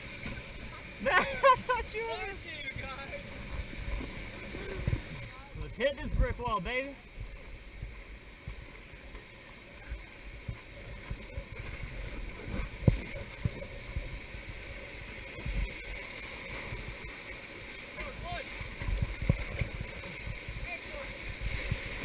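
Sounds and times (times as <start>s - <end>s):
wind rumble on microphone: 2.6s - 9.0s, 9.8s - 17.2s, 18.2s - 22.0s.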